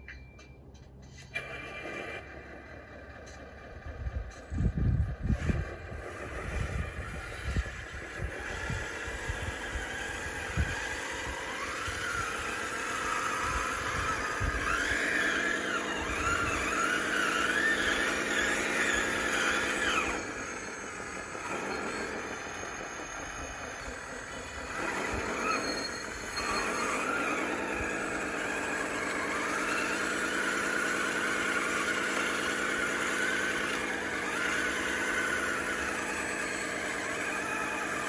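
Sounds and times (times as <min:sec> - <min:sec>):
toy bulldozer motors whining: 0:00.0 - 0:38.0.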